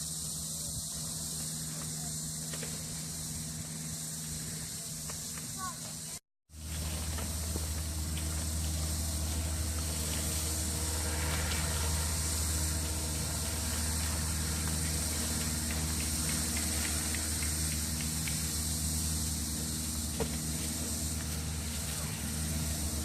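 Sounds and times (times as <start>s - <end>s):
engine running with low hum: 0.0s - 23.0s
steady high hiss: 0.0s - 23.0s.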